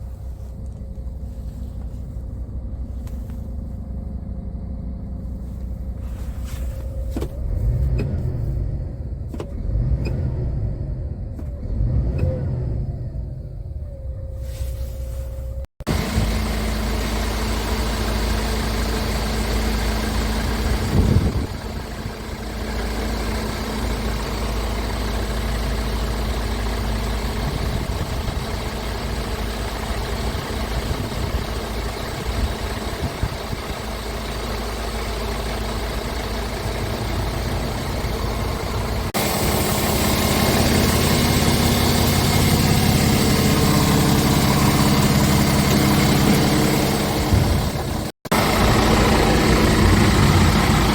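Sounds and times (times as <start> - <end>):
diesel engine idling: 0.0 - 9.9, 12.9 - 50.9.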